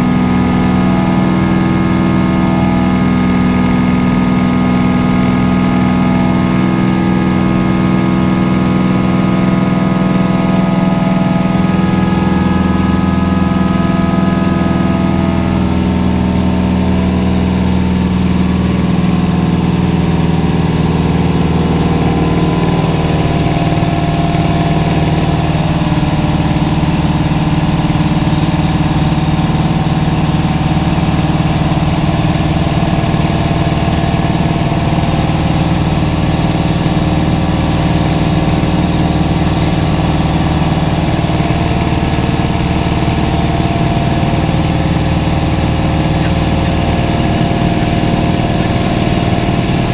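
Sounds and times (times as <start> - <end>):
aircraft engine droning in cabin: 0.0 - 49.9.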